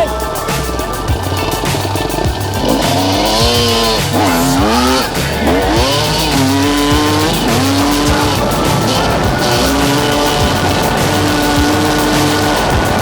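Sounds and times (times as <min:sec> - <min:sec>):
background music with beat: 0:00.0 - 0:13.0
motorcycle engine revving: 0:00.0 - 0:13.0.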